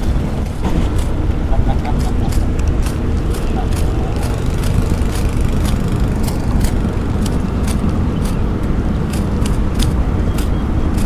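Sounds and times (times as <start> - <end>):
wind buffeting microphone: 0.0 - 11.0
light irregular clicks: 1.8 - 11.0.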